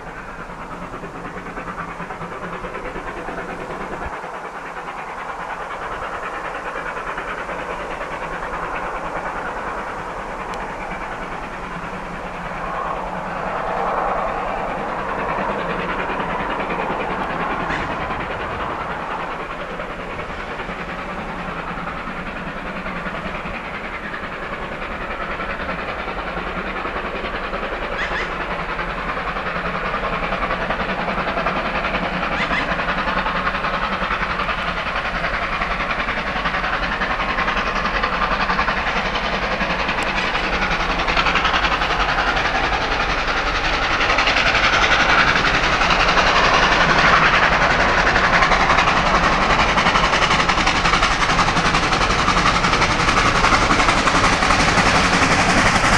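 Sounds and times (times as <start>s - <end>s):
steam train running on rails: 0.0s - 55.9s.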